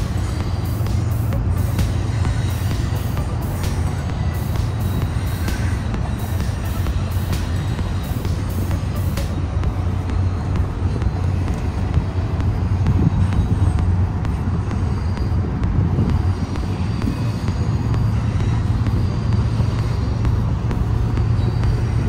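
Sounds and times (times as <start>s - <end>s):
freight train crossing overpass: 0.0s - 22.0s
road traffic rumble: 0.0s - 22.0s.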